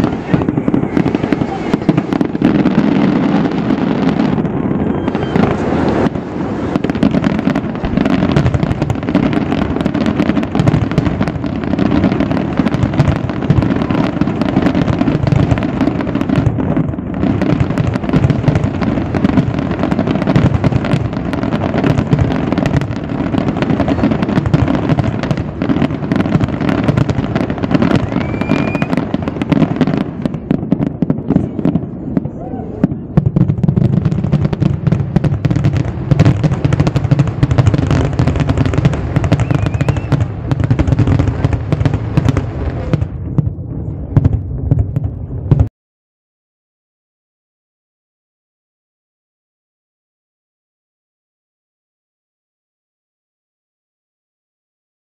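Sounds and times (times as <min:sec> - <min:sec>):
fireworks bangs and crackles: 0:00.0 - 0:45.7.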